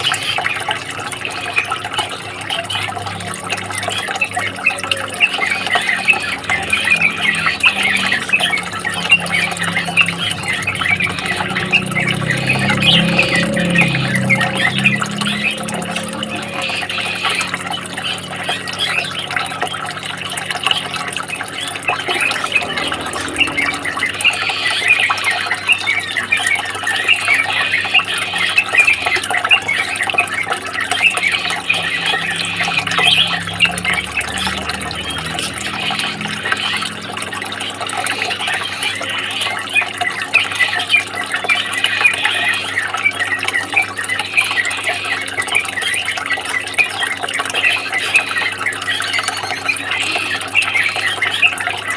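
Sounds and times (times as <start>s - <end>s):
water trickling and splashing: 0.0s - 51.9s.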